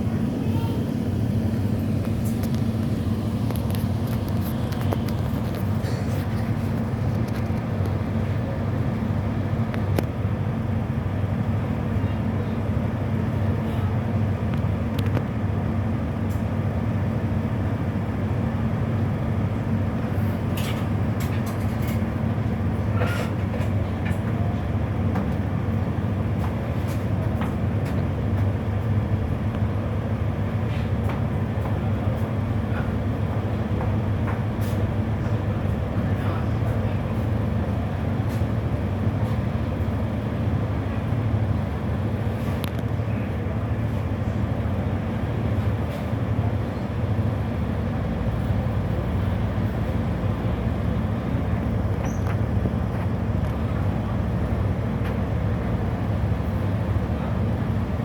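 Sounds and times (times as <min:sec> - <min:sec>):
ferry engines humming: 0:00.0 - 0:58.0.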